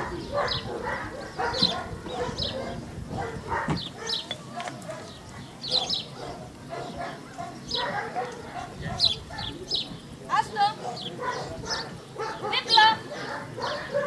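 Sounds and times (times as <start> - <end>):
dogs barking: 0.0 - 9.9, 10.6 - 14.0
small birds chirping: 0.0 - 14.0.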